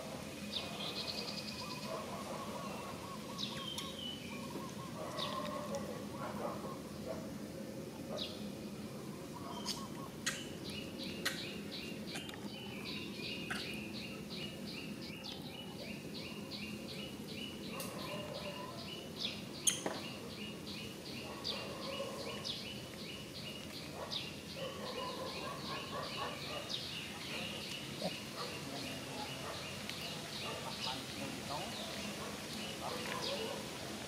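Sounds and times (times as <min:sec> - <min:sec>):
bird chirping: 0:00.4 - 0:07.2, 0:08.1 - 0:33.6.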